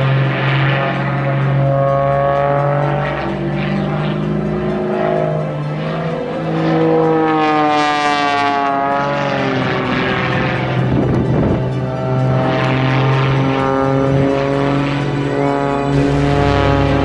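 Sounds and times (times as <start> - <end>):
propeller plane engine flying by: 0.0 - 17.0.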